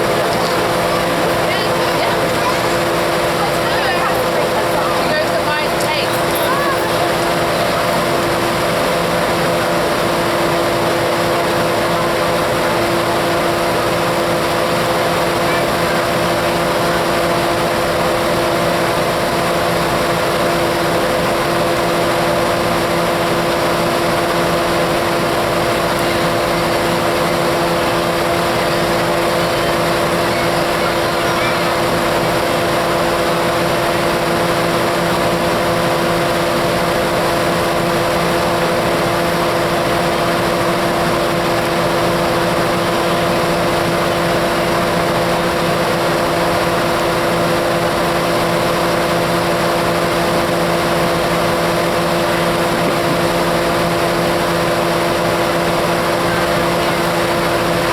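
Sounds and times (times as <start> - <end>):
diesel locomotive idling: 0.0 - 57.9.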